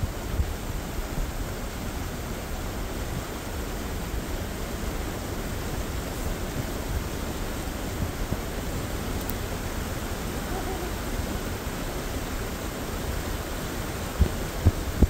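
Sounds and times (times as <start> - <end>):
shallow river rushing: 0.0 - 15.0.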